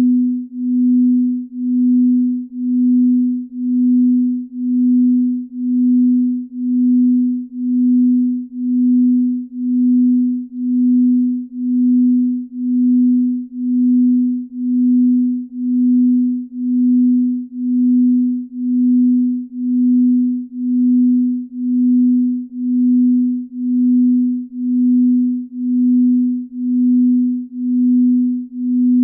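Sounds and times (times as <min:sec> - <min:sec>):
low pulsing pure tone: 0:00.0 - 0:29.0.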